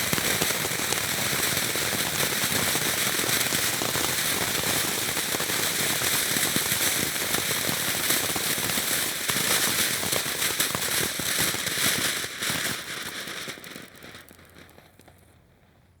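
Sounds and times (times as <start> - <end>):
firework fountain crackling: 0.0 - 15.9.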